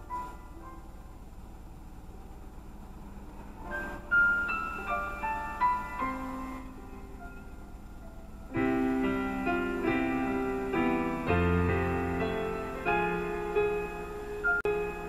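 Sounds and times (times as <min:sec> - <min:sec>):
piano chords: 0:00.0 - 0:15.0
slow piano melody: 0:00.0 - 0:15.0.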